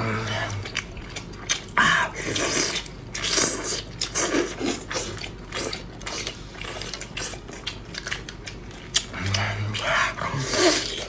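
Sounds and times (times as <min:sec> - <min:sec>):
person slurping and chewing: 0:00.0 - 0:11.0.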